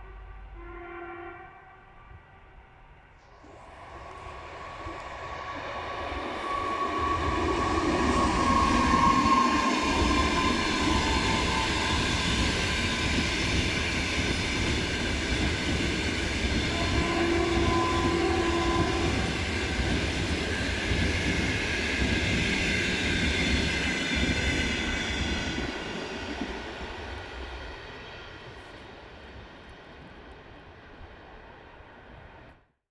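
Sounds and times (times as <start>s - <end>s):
train rumbling and clattering: 3.2s - 32.5s.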